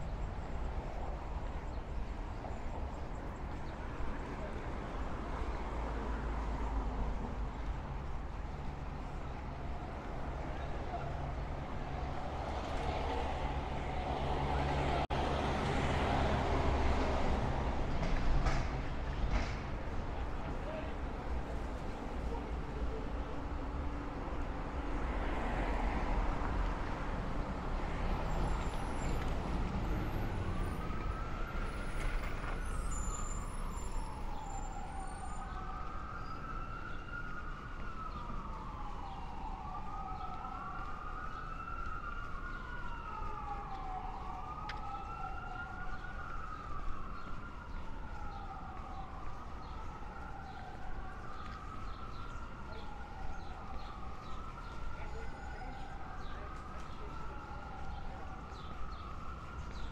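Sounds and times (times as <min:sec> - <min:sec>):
city street traffic: 0:00.0 - 0:59.9
emergency siren wailing: 0:00.1 - 0:59.9.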